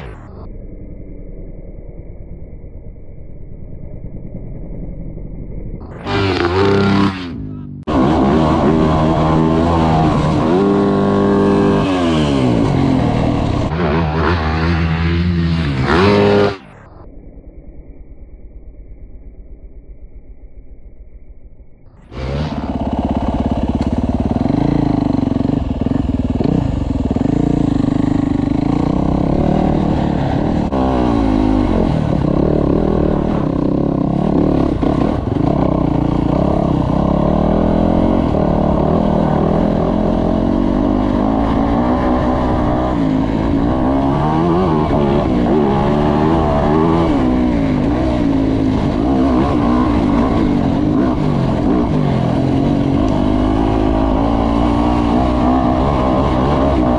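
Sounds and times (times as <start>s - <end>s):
dirt bike engine revving: 5.8s - 17.0s, 22.0s - 56.9s.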